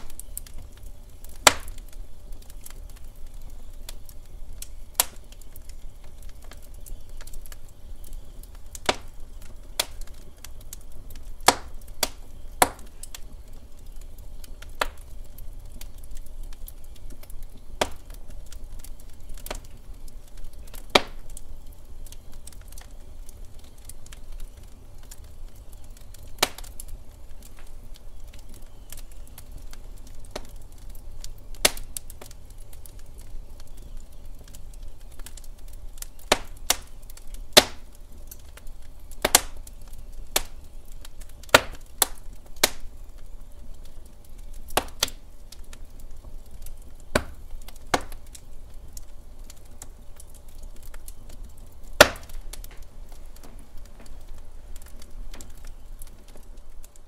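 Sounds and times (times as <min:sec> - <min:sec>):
burning wood cracking and popping: 0:00.0 - 0:57.0
low rumble of flame: 0:00.0 - 0:57.0.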